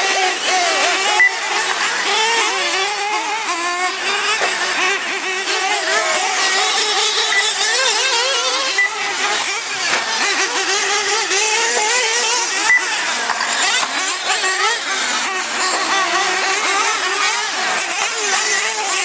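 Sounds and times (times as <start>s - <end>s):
small rc truck engines revving: 0.0s - 19.0s.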